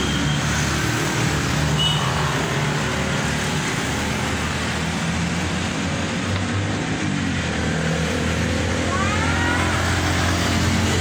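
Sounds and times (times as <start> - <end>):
cars and motorcycles passing: 0.0 - 11.0.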